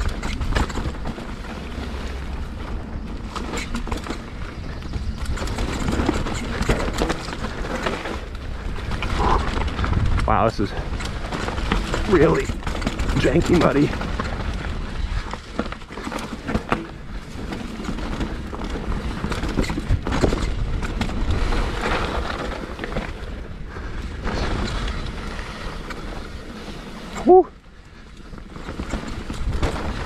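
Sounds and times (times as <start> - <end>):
bike chain and frame rattling: 0.0 - 30.0
bike tyres rolling on dirt: 0.0 - 30.0.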